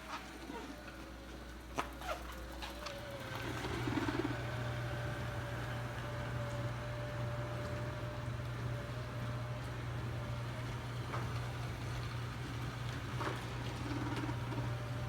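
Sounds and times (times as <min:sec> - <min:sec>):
robotic vacuum hum and whine: 0:00.1 - 0:15.0.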